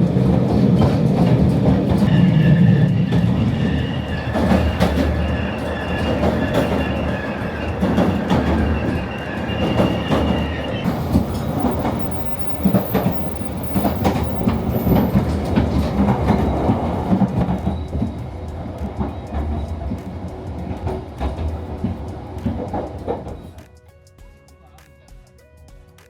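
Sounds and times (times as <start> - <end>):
wheels clattering over track: 0.0 - 23.6
train rumbling on rails: 0.0 - 23.7.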